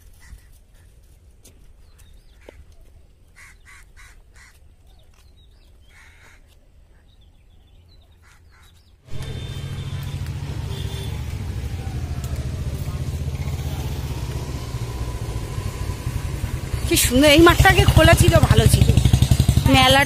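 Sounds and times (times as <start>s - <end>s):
birds calling: 1.8s - 20.0s.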